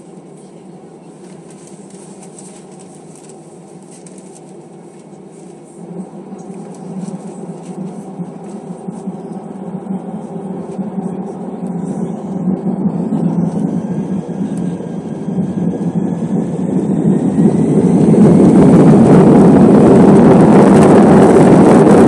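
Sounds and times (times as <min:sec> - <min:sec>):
jet engine hum in cabin: 0:00.0 - 0:22.0.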